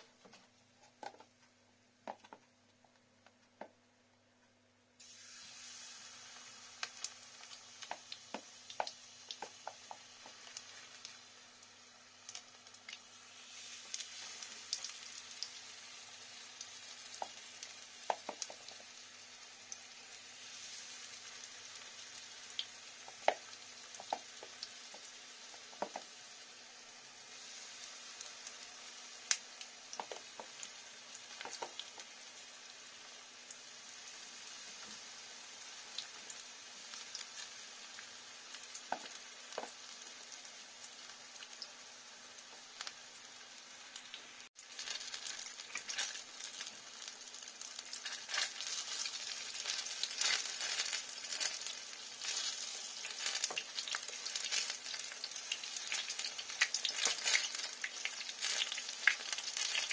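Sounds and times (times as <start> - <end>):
fritters sizzling in frying pan: 5.0 - 59.9.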